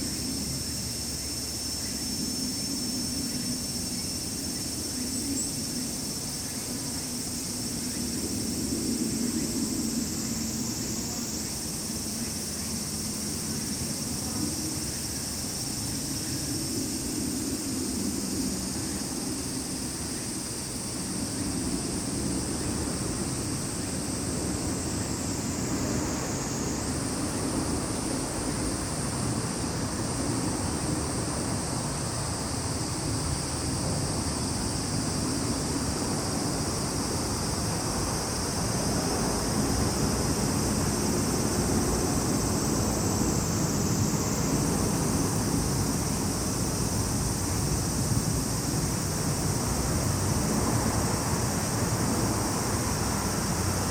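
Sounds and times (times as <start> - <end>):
cicadas and crickets buzzing: 0.0 - 53.9.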